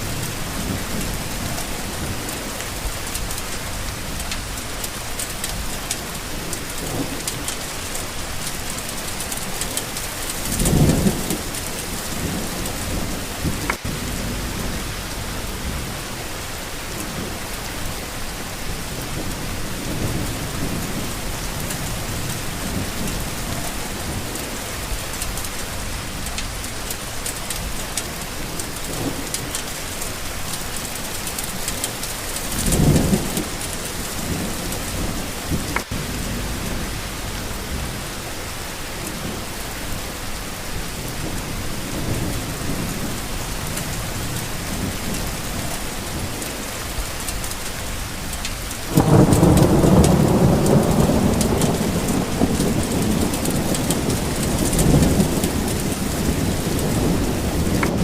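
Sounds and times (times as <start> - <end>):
distant thunder rumbling: 0.0 - 58.0
steady rain: 0.0 - 58.0.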